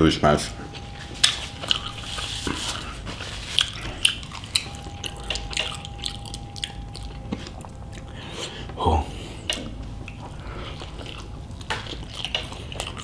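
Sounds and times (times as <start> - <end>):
person chewing food: 0.7 - 13.0.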